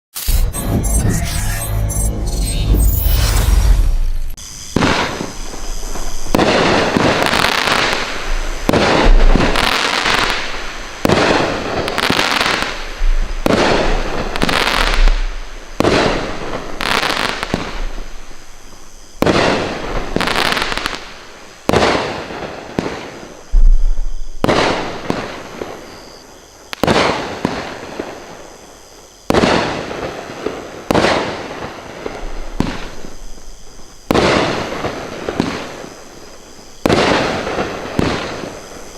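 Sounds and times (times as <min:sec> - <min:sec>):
firework shots: 0:02.9 - 0:28.4, 0:29.2 - 0:38.9.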